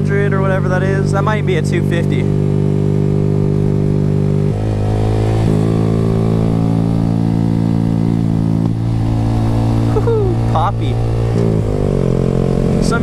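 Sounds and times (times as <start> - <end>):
loud motorcycle engine: 0.0 - 13.0.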